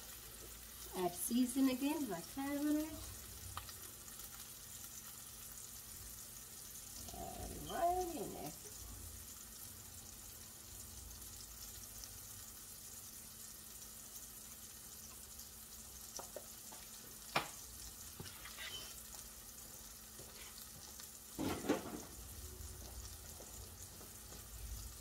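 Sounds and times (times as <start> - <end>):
burger patties sizzling in pan: 0.0 - 25.0.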